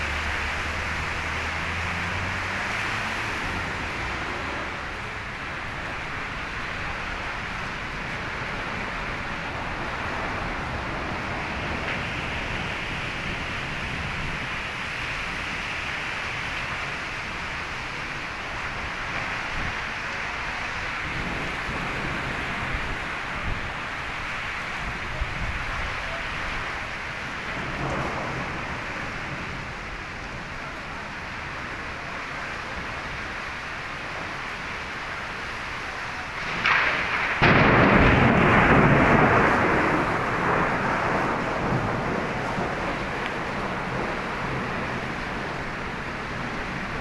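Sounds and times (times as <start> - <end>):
thunderclap rumbling: 0.0 - 30.8, 36.2 - 47.0
heavy rain: 0.0 - 47.0.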